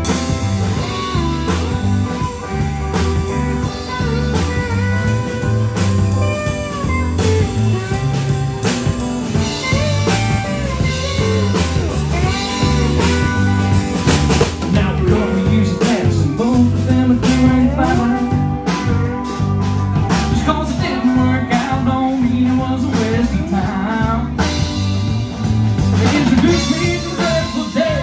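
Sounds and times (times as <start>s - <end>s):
bending guitar lead line: 0.0s - 28.0s
rock band playing: 0.0s - 28.0s.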